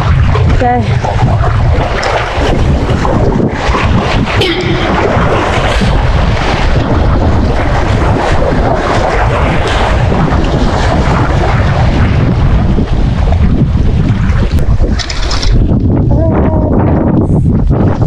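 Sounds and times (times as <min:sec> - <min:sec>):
waves washing against rocks: 0:00.0 - 0:18.0
wind buffeting microphone: 0:00.0 - 0:18.0.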